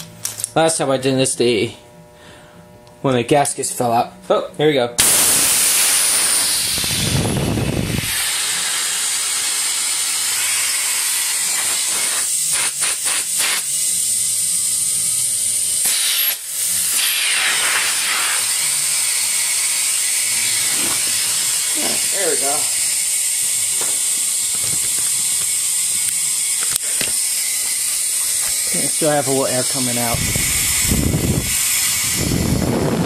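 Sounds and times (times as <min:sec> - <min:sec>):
compressed air hissing: 0:05.0 - 0:33.0.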